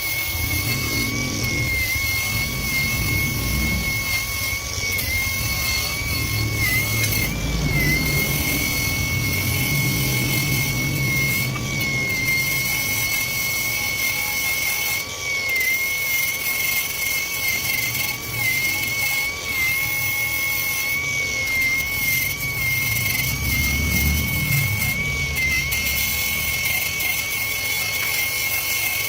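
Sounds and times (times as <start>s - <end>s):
low rumble: 0.0s - 14.8s, 17.7s - 28.1s
power tool motor whining: 0.0s - 29.0s.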